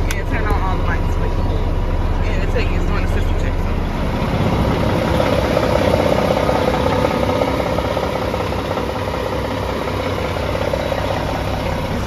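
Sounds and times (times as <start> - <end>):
steady mid-pitched tone: 0.0 - 12.0
truck diesel engine idling: 0.0 - 12.0.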